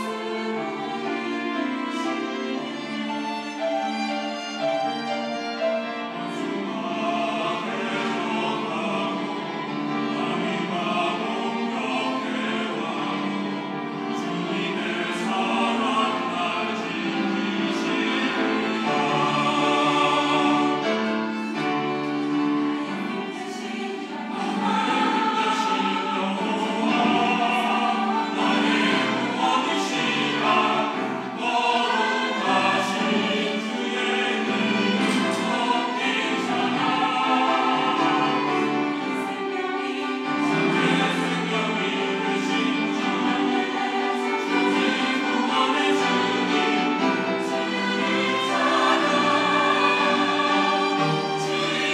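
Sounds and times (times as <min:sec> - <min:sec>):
mixed choir singing: 0:00.0 - 0:51.9.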